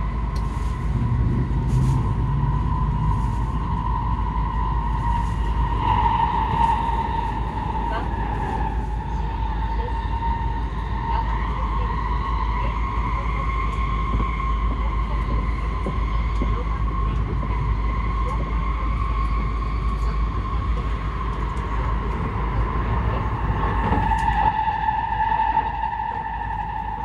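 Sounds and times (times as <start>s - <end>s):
train running rumble and whine: 0.0s - 27.0s.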